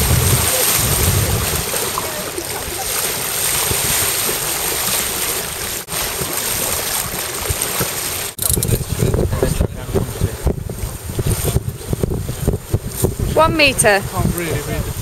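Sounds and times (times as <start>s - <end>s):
wind buffeting microphone: 0.0s - 5.8s, 8.4s - 15.0s
water rushing past hull: 0.0s - 15.0s.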